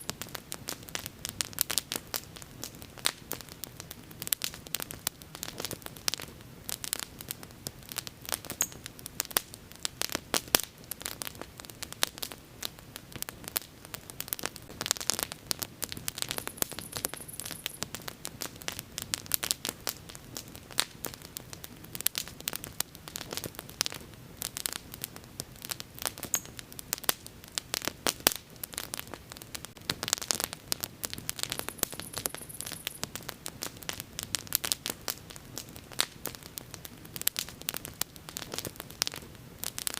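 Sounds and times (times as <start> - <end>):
bonfire snapping and popping: 0.0 - 39.9.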